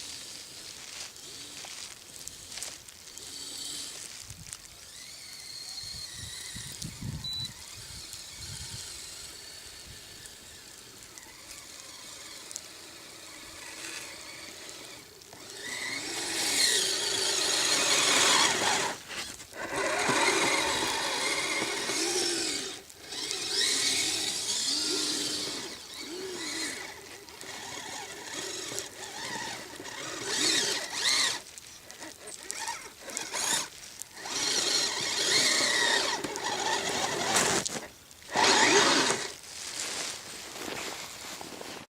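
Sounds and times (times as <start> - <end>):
toy electric motor whining: 0.0 - 39.4.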